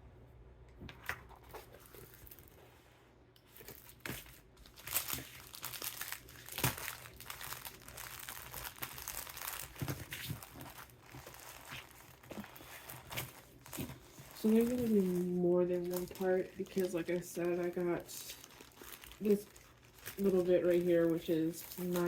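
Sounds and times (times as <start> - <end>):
packaging crinkling: 1.3 - 2.6, 3.4 - 22.0.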